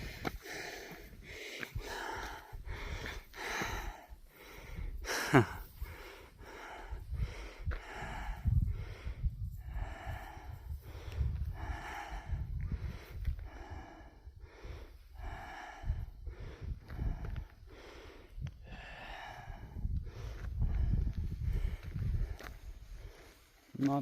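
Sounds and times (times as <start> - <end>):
person breathing hard: 0.0 - 23.6.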